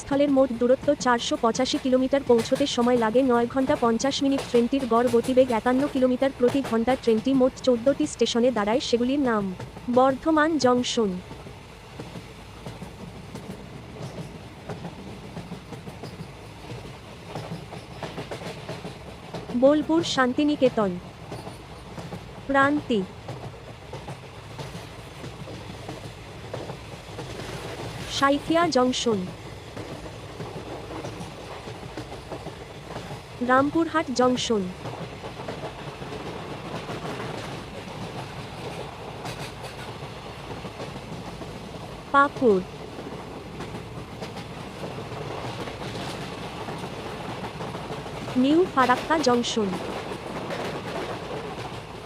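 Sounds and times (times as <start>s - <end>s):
train running on rails: 0.0s - 52.0s.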